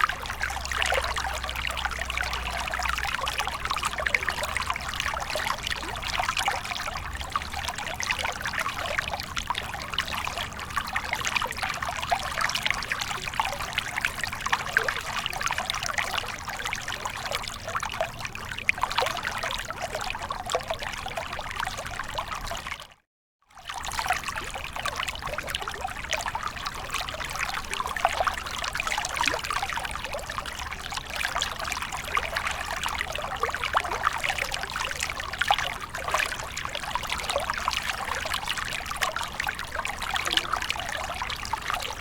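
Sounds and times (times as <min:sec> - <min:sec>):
water trickling and splashing: 0:00.0 - 0:23.0, 0:23.6 - 0:42.0.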